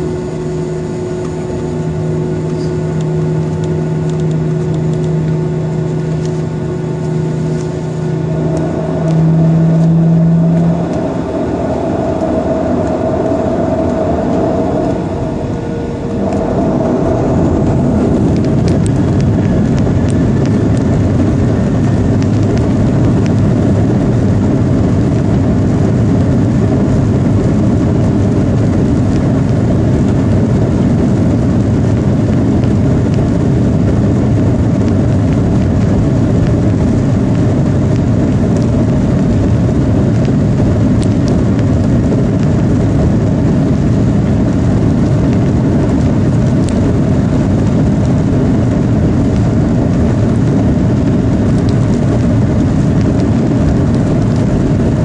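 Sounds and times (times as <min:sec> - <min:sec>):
jet engines rumbling from cabin: 0:00.0 - 0:55.0.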